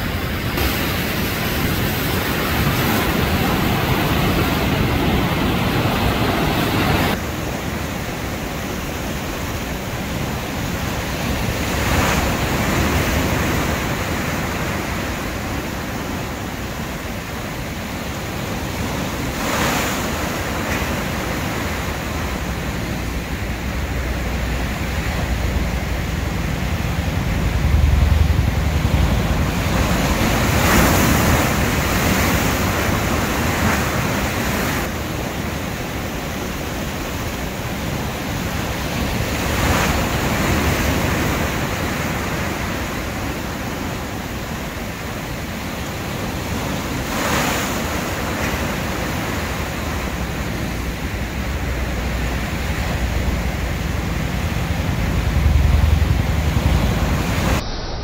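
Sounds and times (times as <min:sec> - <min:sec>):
waves crashing on shore: 0:00.0 - 0:58.0.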